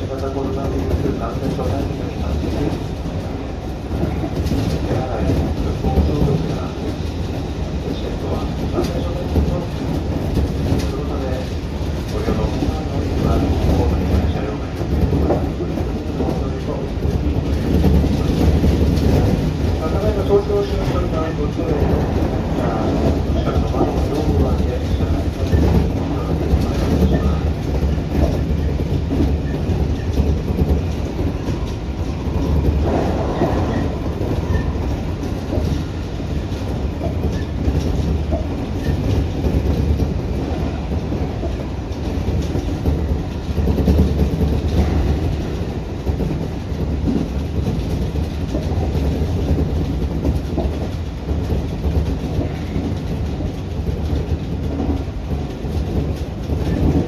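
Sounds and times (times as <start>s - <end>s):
clickety-clack over track: 0.0s - 57.0s
train wheels rumbling on rails: 0.0s - 57.0s.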